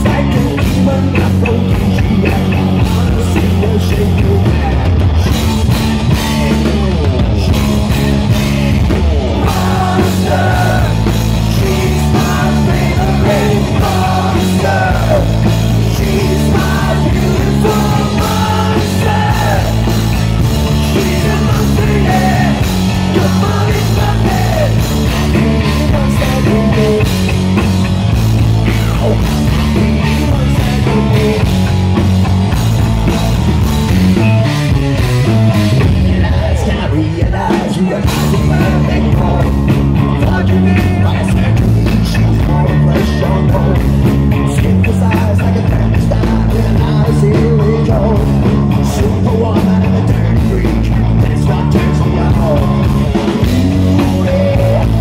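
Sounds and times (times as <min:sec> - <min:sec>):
lead vocal singing: 0:00.0 - 0:27.5, 0:28.6 - 0:31.8, 0:34.2 - 0:55.0
bass guitar: 0:00.0 - 0:55.0
drums: 0:00.0 - 0:55.0
electric guitar: 0:00.0 - 0:55.0.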